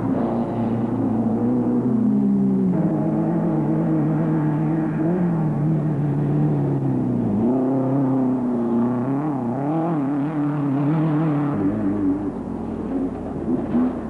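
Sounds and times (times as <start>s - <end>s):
race vehicle engine revving: 0.0s - 14.0s.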